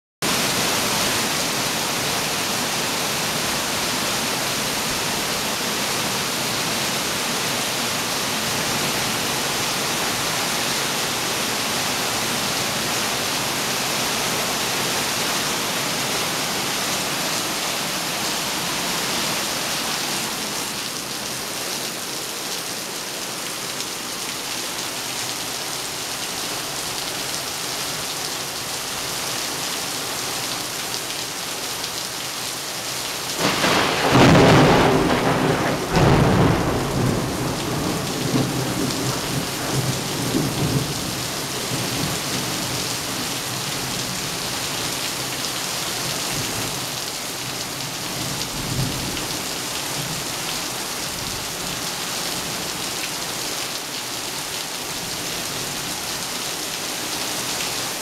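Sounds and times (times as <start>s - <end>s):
heavy rain pouring: 0.2s - 58.0s.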